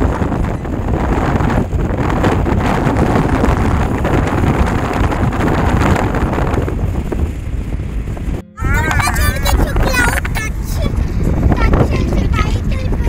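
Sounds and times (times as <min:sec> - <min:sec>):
car rumbling in motion: 0:00.0 - 0:13.0
wind buffeting microphone: 0:00.0 - 0:13.0.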